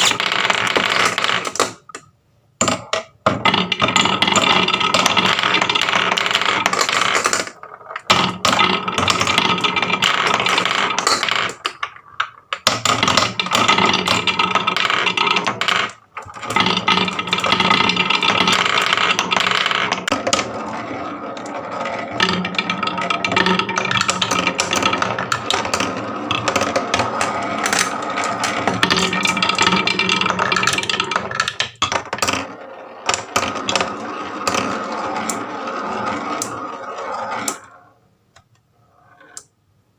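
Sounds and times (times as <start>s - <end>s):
marbles rattling down wooden run: 0.0s - 2.0s, 2.6s - 38.0s.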